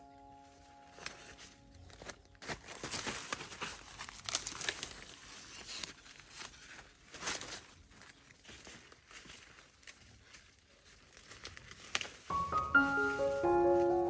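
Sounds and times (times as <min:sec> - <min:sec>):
corn husks rustling and tearing: 0:00.5 - 0:14.0.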